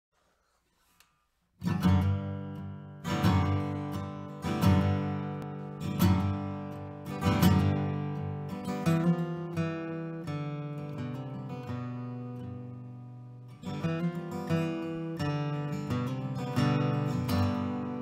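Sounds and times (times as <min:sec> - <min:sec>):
strummed guitar chords: 0:01.6 - 0:18.0.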